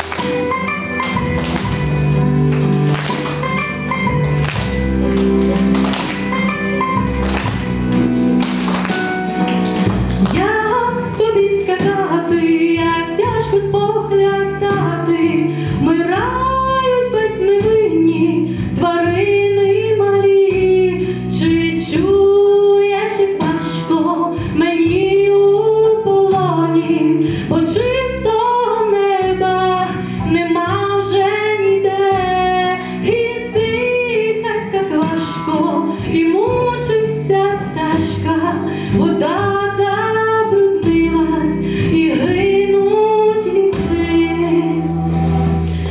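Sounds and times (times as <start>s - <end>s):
instrumental backing: 0.0s - 45.9s.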